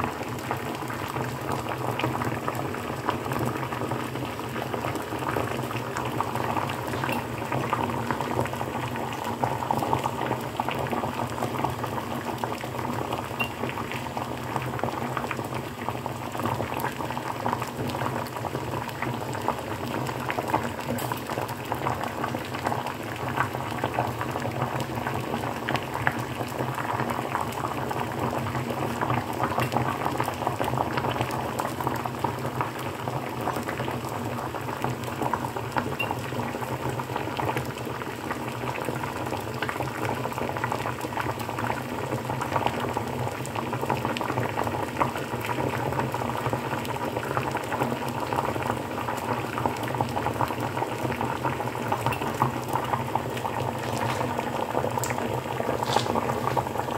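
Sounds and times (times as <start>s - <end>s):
water boiling and bubbling: 0.0s - 56.9s.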